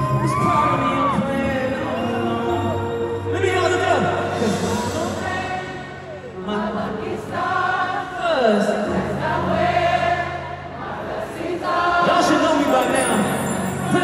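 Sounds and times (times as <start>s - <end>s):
choir singing gospel: 0.0s - 14.0s.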